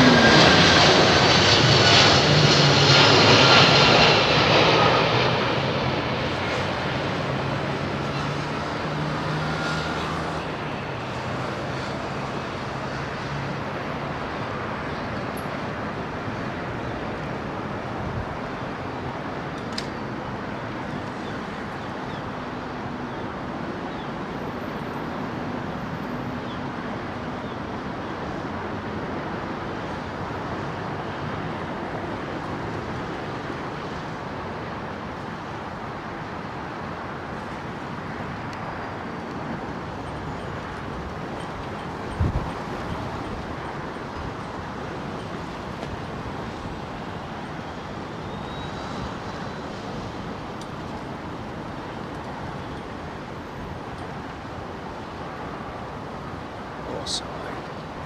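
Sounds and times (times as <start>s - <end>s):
jet engine noise: 0.0s - 58.0s
traffic: 0.0s - 58.0s.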